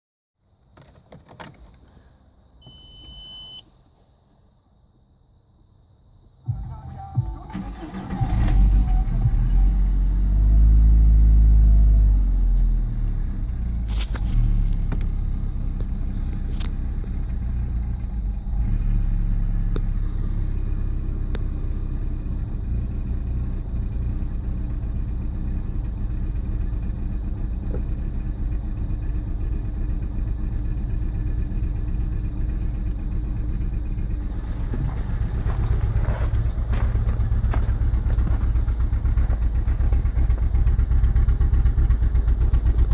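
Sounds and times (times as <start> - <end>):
car engine revving then idling: 7.2 - 42.9.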